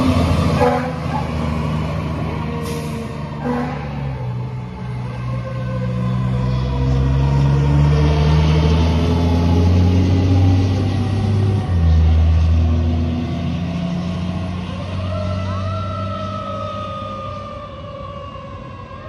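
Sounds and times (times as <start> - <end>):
diesel truck engine accelerating: 0.0 - 19.0.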